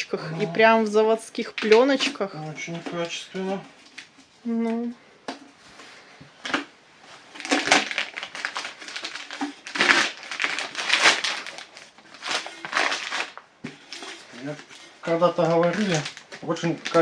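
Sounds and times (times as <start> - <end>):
plastic film crinkling and tearing: 0.0 - 4.1, 7.2 - 17.0.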